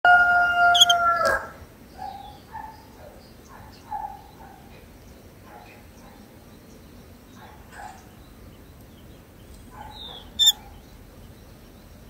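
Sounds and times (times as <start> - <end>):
nestlings chirping: 0.8 - 1.0, 1.9 - 12.0.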